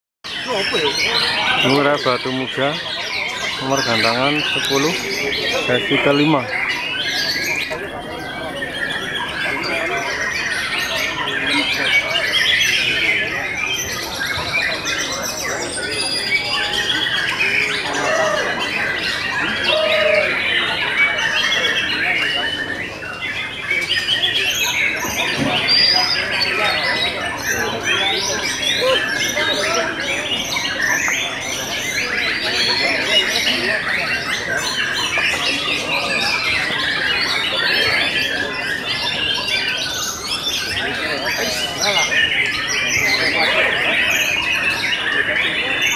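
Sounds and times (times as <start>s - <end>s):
chorus of birds singing: 0.3s - 45.9s.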